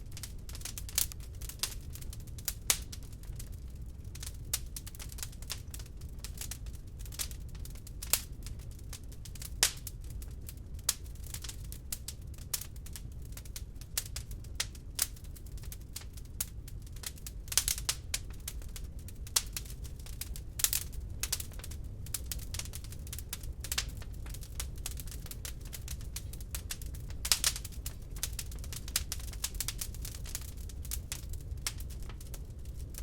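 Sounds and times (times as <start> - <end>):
log fire crackling: 0.0 - 33.0
loud fire pops: 0.1 - 33.0.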